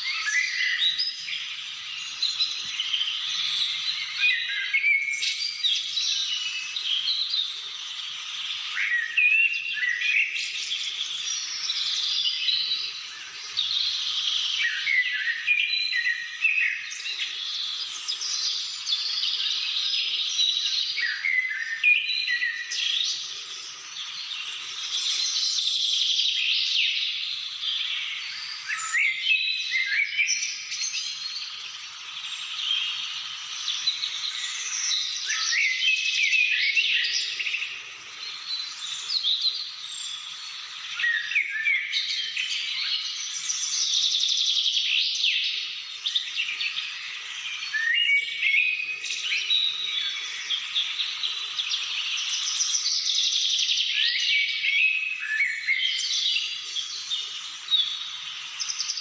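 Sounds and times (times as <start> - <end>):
birds singing in chorus: 0.0 - 59.0.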